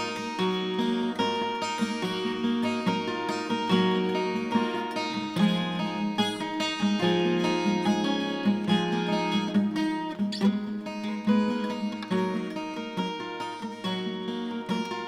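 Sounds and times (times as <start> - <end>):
twelve-string acoustic guitar: 0.0 - 15.0.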